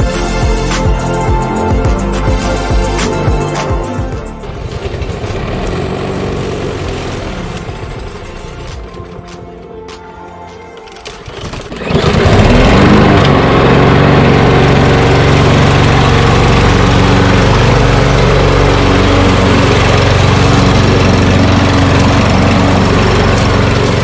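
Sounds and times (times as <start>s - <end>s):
lawnmower engine running: 0.0s - 24.0s.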